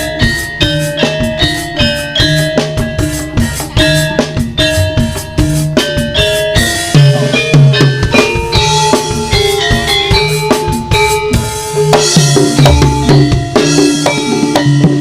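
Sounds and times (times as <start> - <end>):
melody of held notes: 0.0 - 15.0
steady drum pattern: 0.0 - 15.0.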